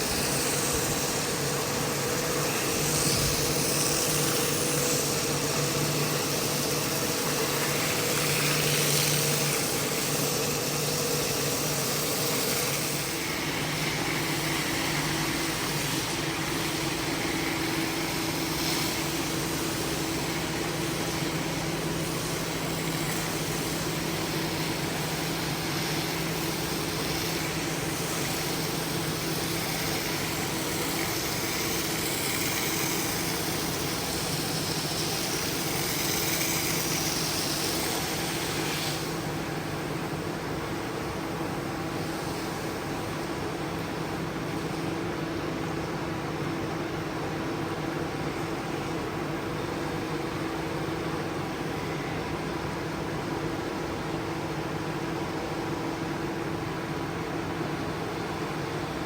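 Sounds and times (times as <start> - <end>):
carpet cleaning machine running: 0.0 - 59.0.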